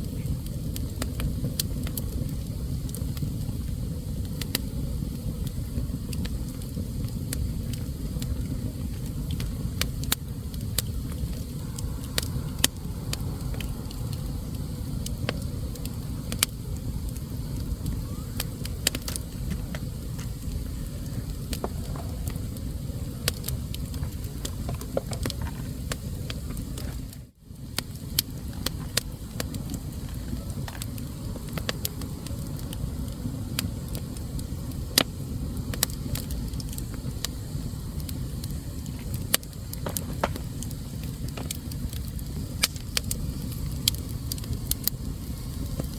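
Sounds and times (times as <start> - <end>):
logs crackling and popping: 0.0 - 45.9
low rumble of flames: 0.0 - 45.9.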